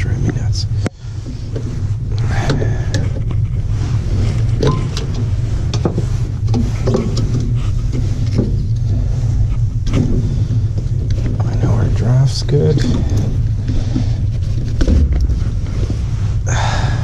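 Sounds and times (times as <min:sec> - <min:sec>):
gas furnace humming: 0:00.0 - 0:17.0.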